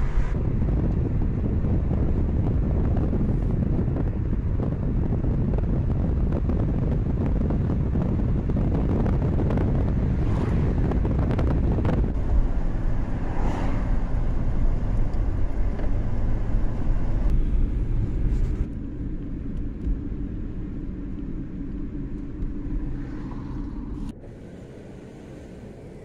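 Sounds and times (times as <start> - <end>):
car rumbling on road: 0.0 - 26.0.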